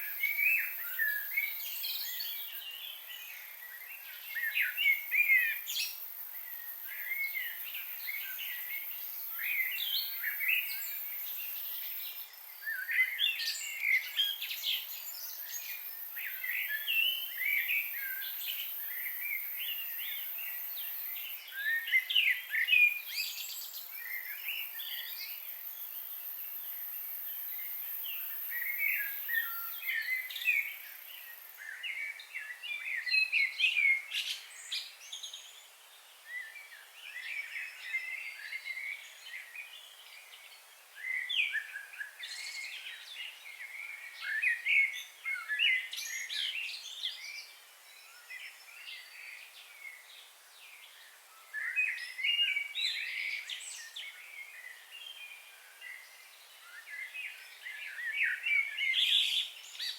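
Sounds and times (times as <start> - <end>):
faint background hiss: 0.0 - 59.9
small birds chirping: 0.0 - 59.9.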